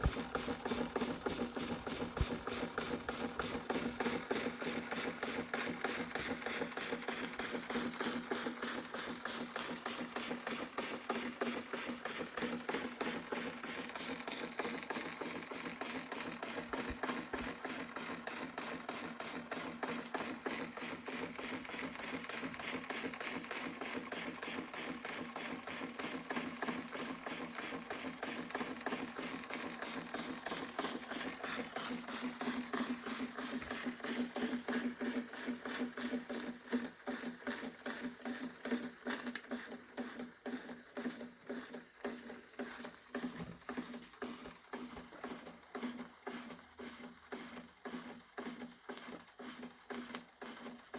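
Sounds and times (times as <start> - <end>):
toy steam engine running: 0.0 - 50.9.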